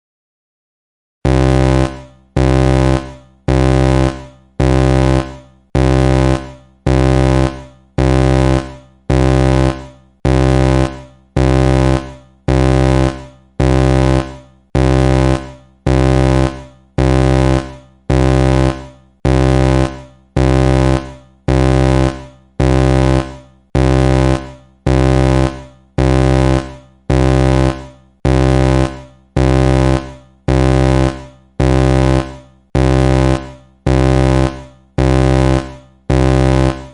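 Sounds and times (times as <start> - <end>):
low buzzing alarm blare: 1.2 - 36.9.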